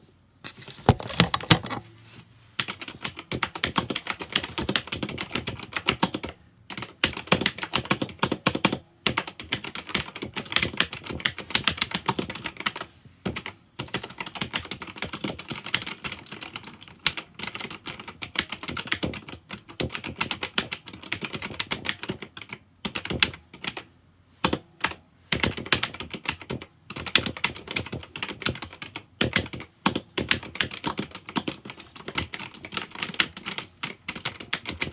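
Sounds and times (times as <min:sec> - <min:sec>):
typing on computer keyboard: 0:02.6 - 0:34.9.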